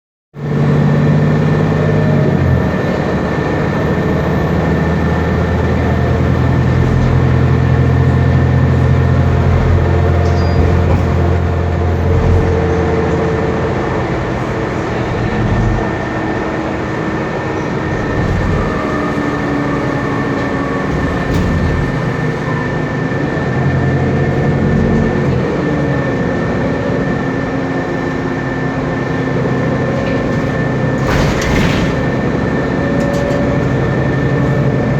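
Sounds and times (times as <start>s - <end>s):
diesel bus engine running: 0.4s - 34.9s.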